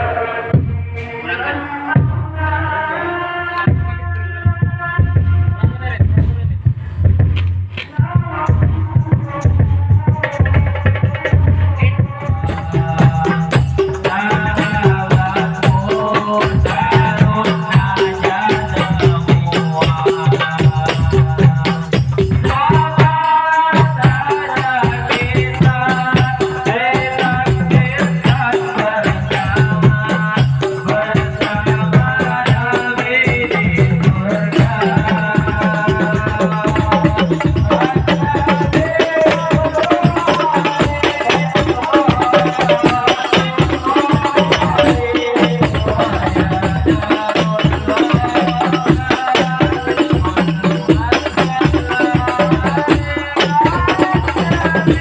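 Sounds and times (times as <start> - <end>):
devotional singing: 0.0 - 6.4, 7.8 - 55.0
fast hand percussion and rattles: 7.0 - 55.0.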